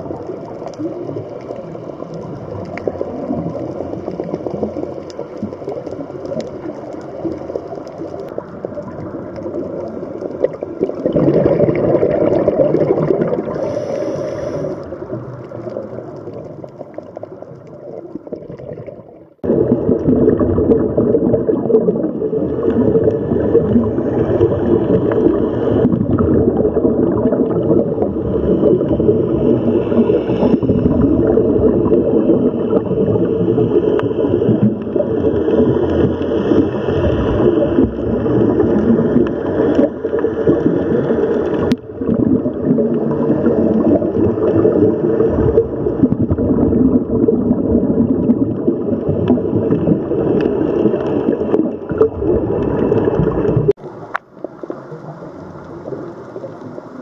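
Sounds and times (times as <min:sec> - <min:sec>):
underwater rushing and bubbling: 0:00.0 - 0:57.0.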